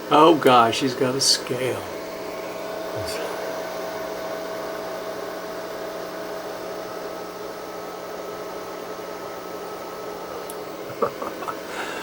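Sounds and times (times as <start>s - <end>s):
computer fans whirring: 0.0s - 12.0s
constant hum: 0.0s - 12.0s.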